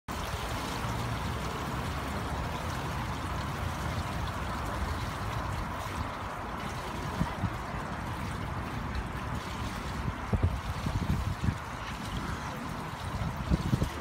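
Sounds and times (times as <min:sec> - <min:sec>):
steady rushing noise: 0:00.1 - 0:14.0.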